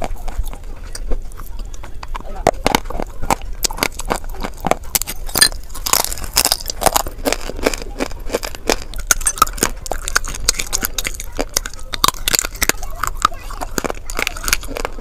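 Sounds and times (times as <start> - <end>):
crunching of chewed clay: 0.0 - 15.0.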